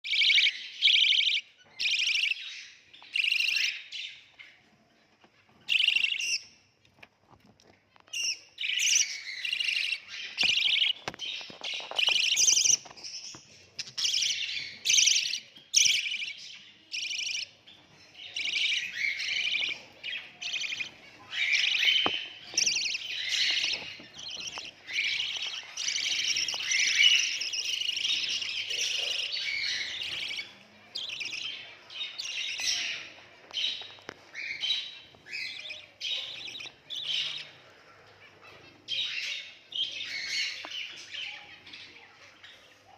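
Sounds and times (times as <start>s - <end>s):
budgerigar chicks chirping: 0.0s - 6.7s, 8.0s - 42.9s.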